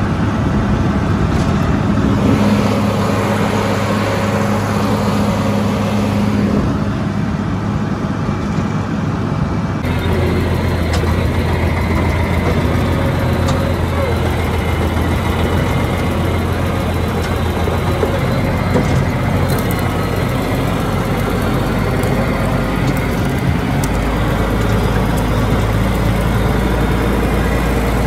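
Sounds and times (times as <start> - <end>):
tractor engine running: 0.0 - 9.0, 9.8 - 28.0.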